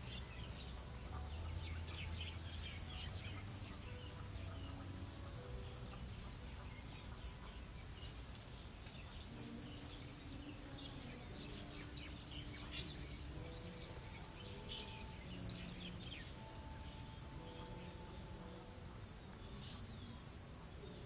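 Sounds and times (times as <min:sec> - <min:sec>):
birds chirping faintly: 0:00.0 - 0:21.0
low outdoor rumble: 0:00.0 - 0:21.0.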